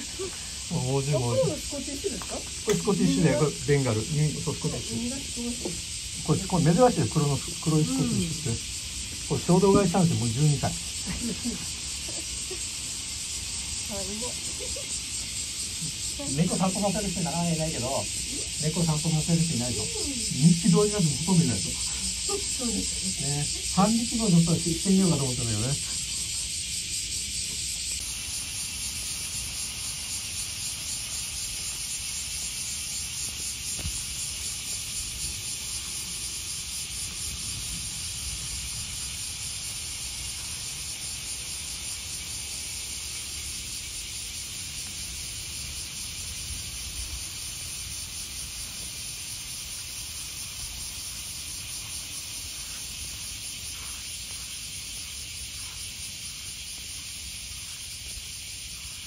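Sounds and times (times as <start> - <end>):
insect chorus shrilling: 0.0 - 59.0.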